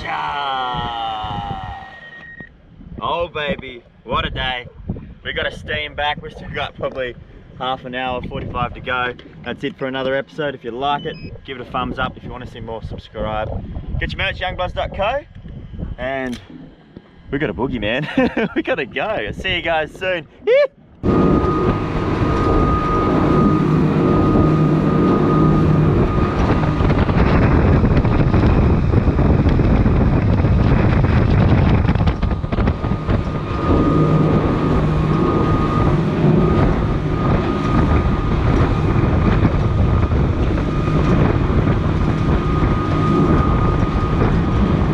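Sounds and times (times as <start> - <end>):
high whine: 0.0 - 4.4, 5.2 - 44.9
wind buffeting microphone: 0.0 - 20.3, 20.9 - 44.9
boat engine and water rush: 0.0 - 44.9.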